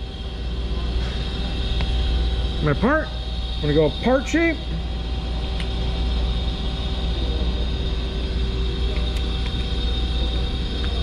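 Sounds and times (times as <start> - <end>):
machine hum with thin whines: 0.0 - 11.0.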